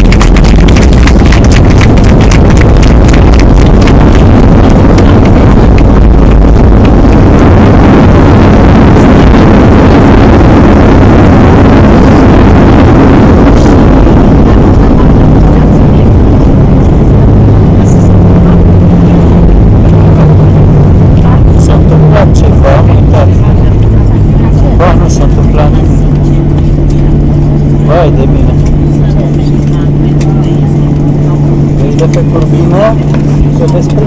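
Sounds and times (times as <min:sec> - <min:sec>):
airliner engines and rushing air: 0:00.0 - 0:34.0
low steady hum: 0:00.0 - 0:34.0.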